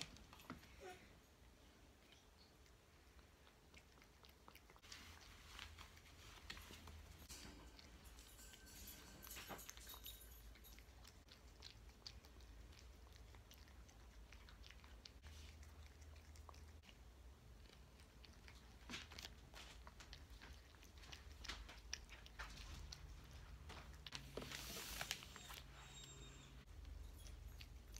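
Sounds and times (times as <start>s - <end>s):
cat chewing wet food: 0.0s - 27.9s.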